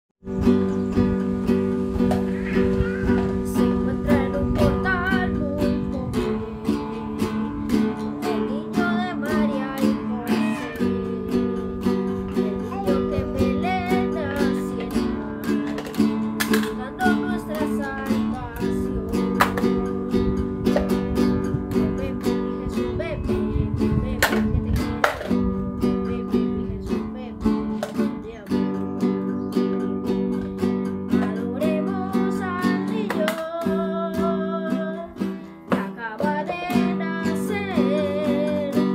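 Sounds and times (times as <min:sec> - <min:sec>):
acoustic guitar strumming: 0:00.2 - 0:38.9.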